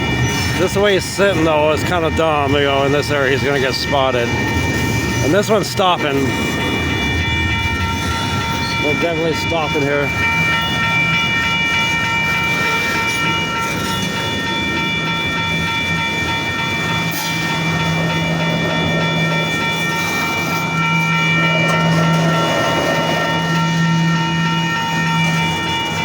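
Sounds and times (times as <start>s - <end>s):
freight train rumbling and clattering: 0.0s - 26.0s
railroad crossing bells clanging: 0.0s - 26.0s.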